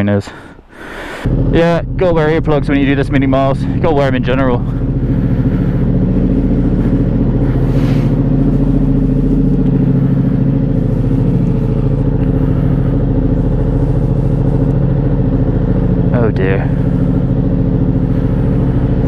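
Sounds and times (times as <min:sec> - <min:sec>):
motorcycle engine running: 0:00.6 - 0:19.0.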